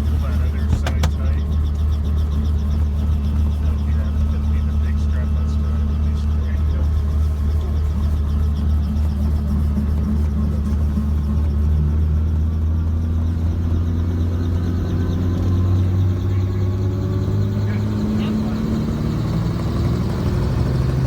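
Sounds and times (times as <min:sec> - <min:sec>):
helicopter rotor and engine drone: 0:00.0 - 0:21.0.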